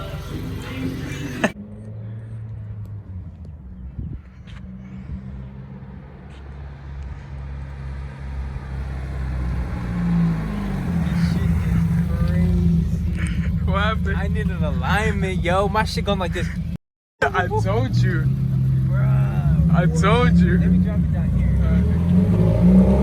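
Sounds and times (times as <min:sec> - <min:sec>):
car engine running: 0:00.0 - 0:06.4, 0:08.0 - 0:23.0.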